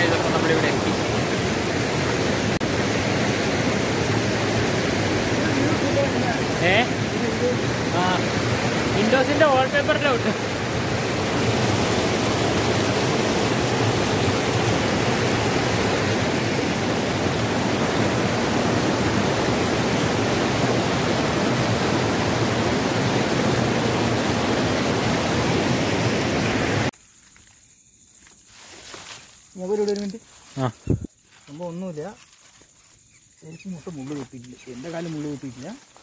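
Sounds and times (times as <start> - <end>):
water cascading over rocks: 0.0 - 26.9, 33.8 - 36.0.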